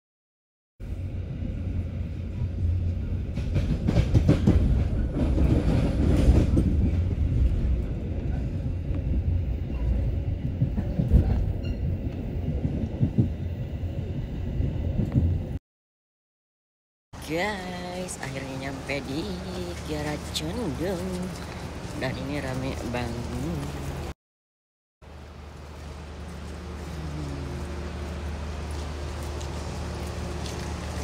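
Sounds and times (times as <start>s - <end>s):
train wheels rumbling on rails: 0.9s - 15.6s, 17.2s - 24.1s, 25.1s - 31.0s.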